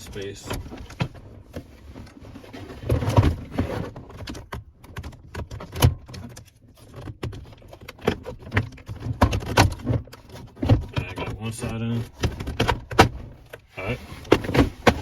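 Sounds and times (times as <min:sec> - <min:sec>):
plastic trim knocking and scraping: 0:00.0 - 0:15.0.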